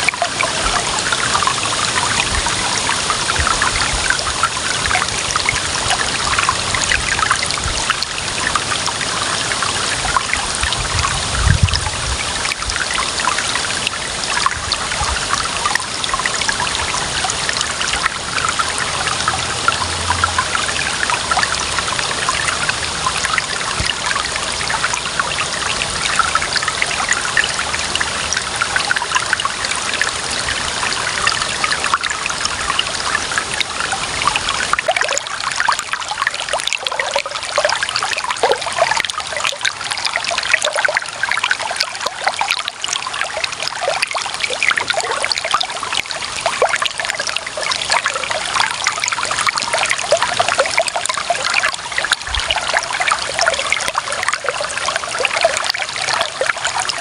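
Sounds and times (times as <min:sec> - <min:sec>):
running water trickling and splashing: 0:00.0 - 0:57.0.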